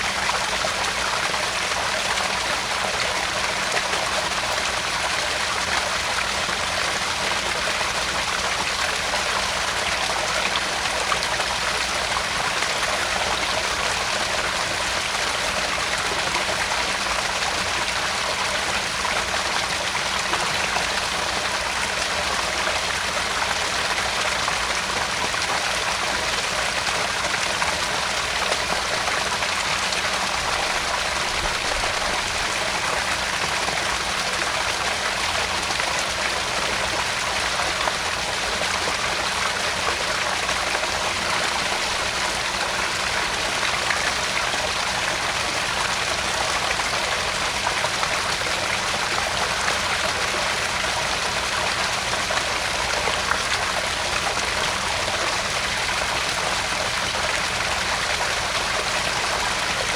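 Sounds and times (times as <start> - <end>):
waterfall splashing into pond: 0.0 - 59.9.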